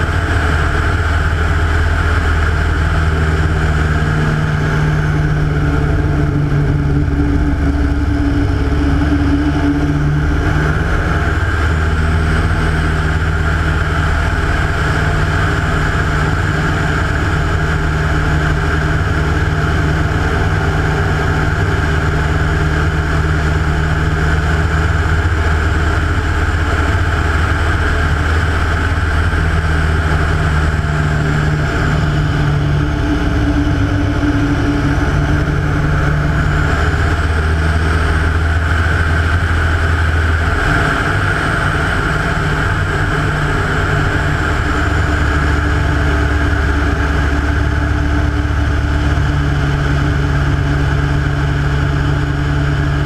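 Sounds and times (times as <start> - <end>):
propeller and wind noise: 0.0 - 53.0
radial aircraft engine running: 0.0 - 53.0.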